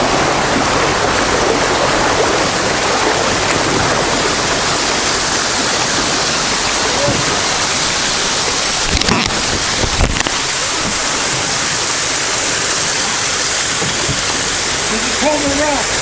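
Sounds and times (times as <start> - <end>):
river water rushing over rapids: 0.0 - 16.0
small waterfall pouring: 0.0 - 16.0.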